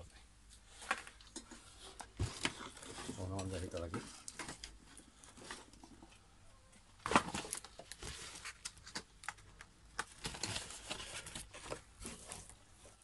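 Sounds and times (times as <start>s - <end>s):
rustling of objects being handled: 0.0s - 13.0s.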